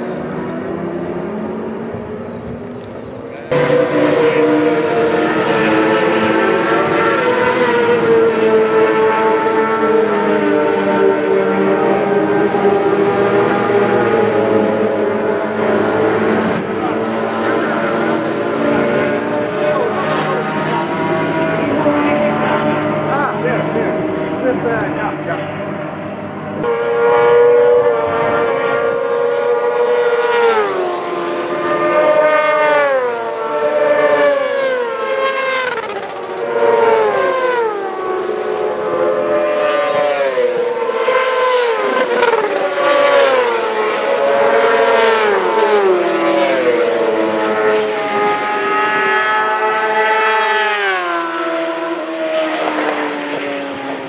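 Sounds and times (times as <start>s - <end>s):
racing sidecar engines passing: 0.0s - 54.0s.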